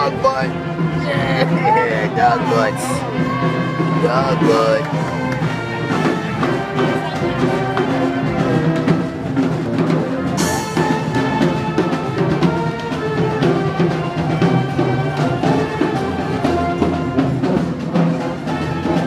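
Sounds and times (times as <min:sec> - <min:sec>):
music with drums: 0:00.0 - 0:19.0.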